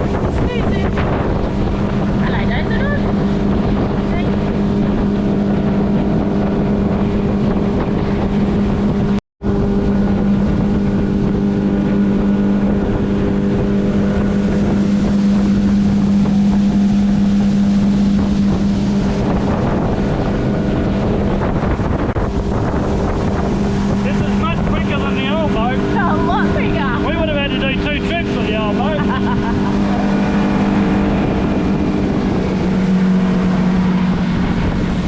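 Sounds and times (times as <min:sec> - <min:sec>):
outboard motor droning: 0:00.0 - 0:35.0
wind and water rushing: 0:00.0 - 0:35.0.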